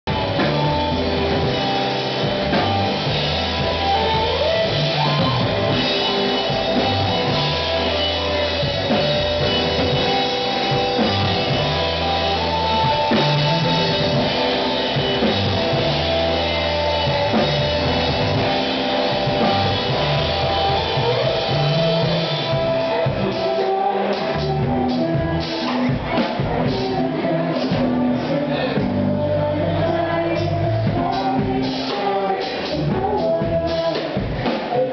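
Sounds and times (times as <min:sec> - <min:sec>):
bass line: 0:00.0 - 0:34.9
drum kit: 0:00.0 - 0:34.9
electric guitar: 0:00.0 - 0:34.9.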